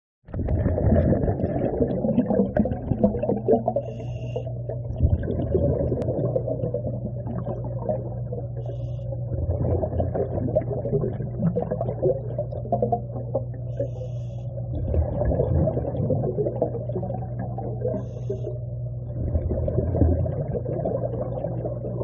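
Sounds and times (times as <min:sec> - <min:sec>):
bubbles crackling: 0:00.3 - 0:14.0, 0:14.7 - 0:22.0
low underwater hum: 0:00.3 - 0:22.0.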